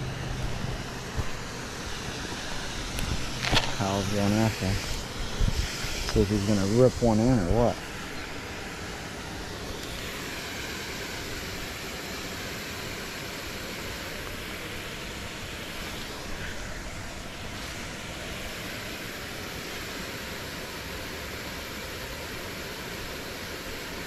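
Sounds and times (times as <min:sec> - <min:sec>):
river water rushing: 0:00.0 - 0:06.0, 0:07.3 - 0:24.0.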